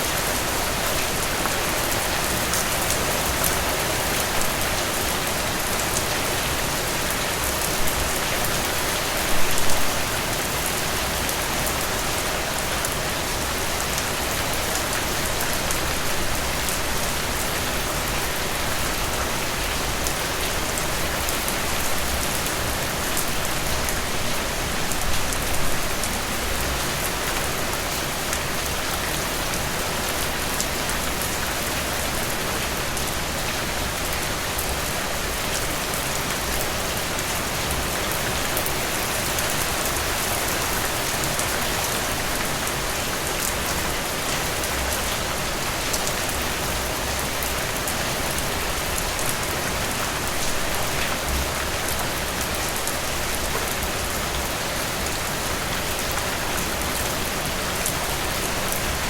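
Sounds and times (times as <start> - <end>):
heavy rain on surfaces: 0.0 - 59.0.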